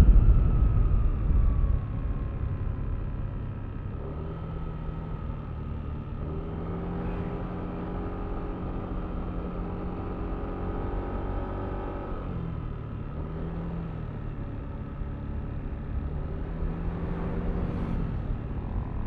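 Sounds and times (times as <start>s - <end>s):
road and wind rumble: 0.0s - 19.0s.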